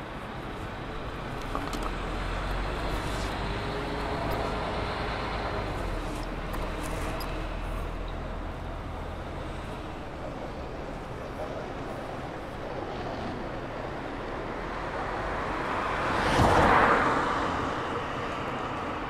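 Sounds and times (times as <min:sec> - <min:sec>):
road vehicle passing: 0:00.0 - 0:19.0.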